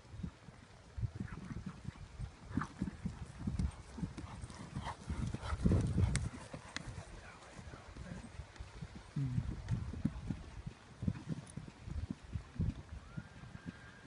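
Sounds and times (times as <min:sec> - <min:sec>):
horse hooves cantering on grass: 0:00.0 - 0:14.0.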